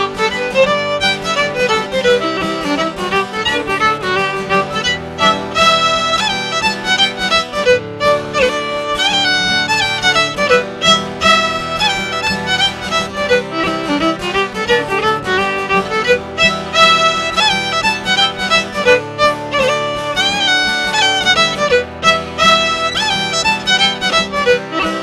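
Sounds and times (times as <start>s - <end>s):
fiddle playing dance tune: 0.0s - 25.0s.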